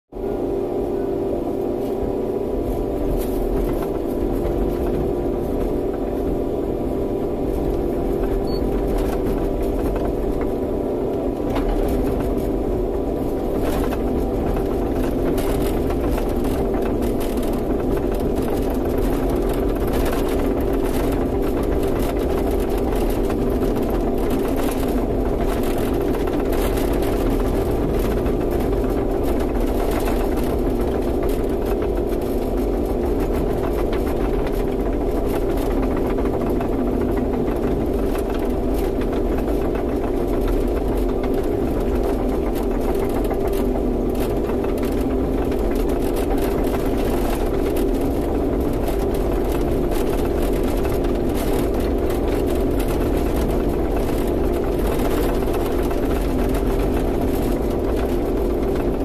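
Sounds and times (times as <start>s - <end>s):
diesel engine running: 0.1s - 59.0s.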